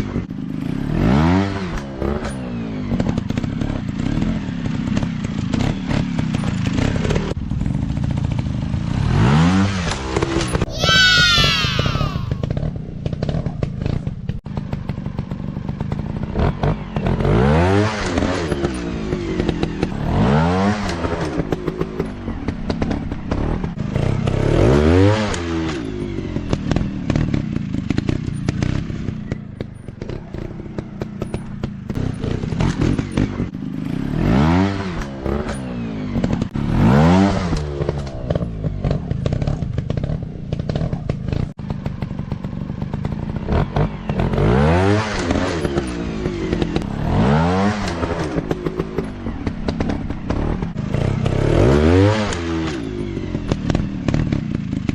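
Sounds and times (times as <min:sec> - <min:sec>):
dirt bike engine revving: 0:00.0 - 0:29.4, 0:30.0 - 0:54.9.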